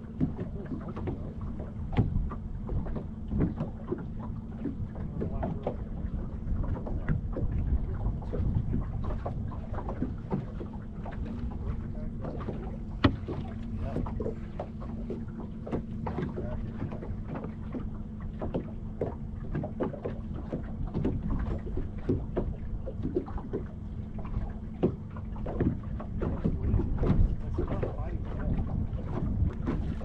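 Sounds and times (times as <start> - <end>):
low motor hum: 0.0 - 30.0
waves lapping against boat hull: 0.0 - 30.0.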